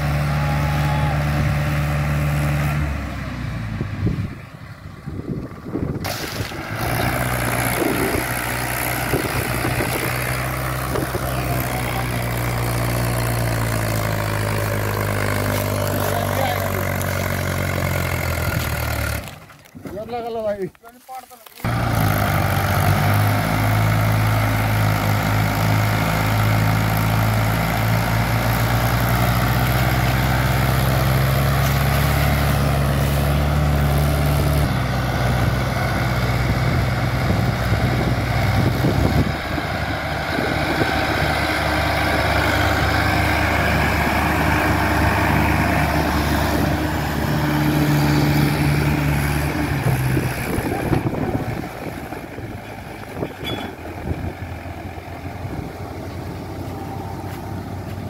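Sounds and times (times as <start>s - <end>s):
tractor diesel engines under load: 0.0s - 58.0s.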